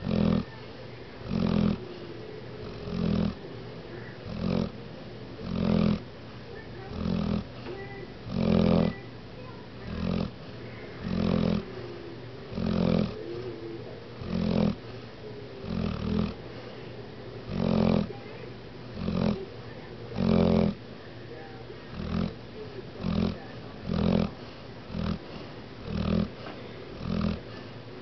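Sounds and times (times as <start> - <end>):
dog snoring: 0.0 - 4.8, 5.4 - 6.1, 6.7 - 9.1, 9.8 - 16.8, 17.4 - 20.8, 21.4 - 27.8
dog breathing: 0.0 - 28.0.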